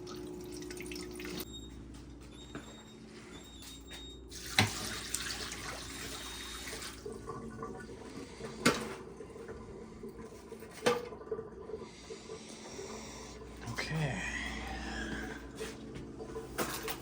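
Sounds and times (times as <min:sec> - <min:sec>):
water dispenser stream: 0:00.0 - 0:01.5, 0:04.3 - 0:17.0.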